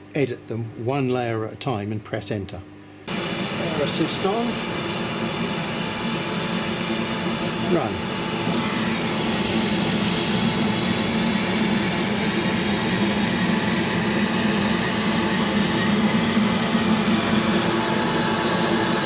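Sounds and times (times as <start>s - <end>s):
laser cutter whirring hum: 3.1s - 19.0s.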